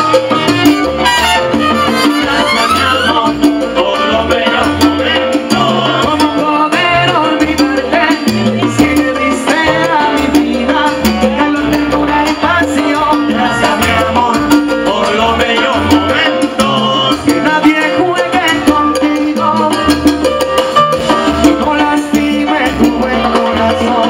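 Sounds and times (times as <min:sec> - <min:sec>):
conga drums: 0:00.0 - 0:24.0
salsa band playing: 0:00.0 - 0:24.0
person singing: 0:01.7 - 0:20.0, 0:21.1 - 0:24.0.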